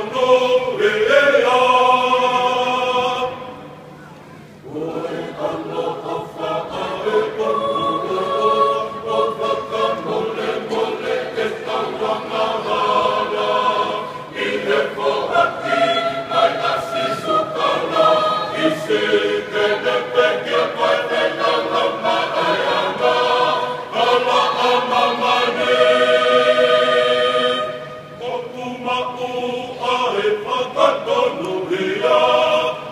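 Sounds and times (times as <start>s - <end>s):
choir singing a hymn: 0.0s - 3.8s, 4.6s - 32.9s.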